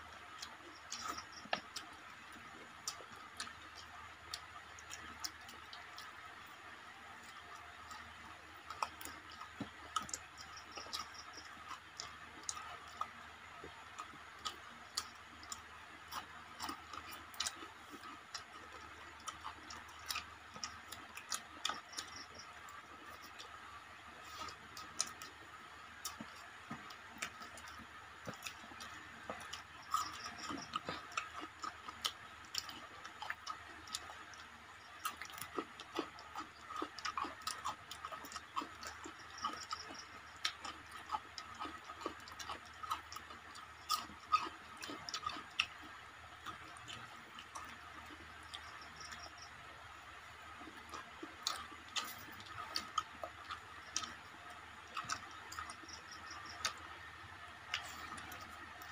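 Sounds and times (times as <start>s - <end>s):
chewing and eating by hand: 0.0s - 58.9s
faint steady hiss: 0.0s - 58.9s.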